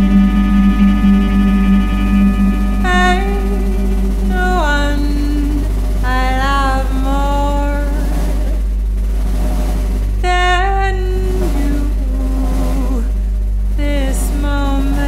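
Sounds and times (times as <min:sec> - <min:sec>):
woman singing with vibrato: 0:00.0 - 0:08.6, 0:10.2 - 0:15.0
low electronic drone: 0:00.0 - 0:15.0.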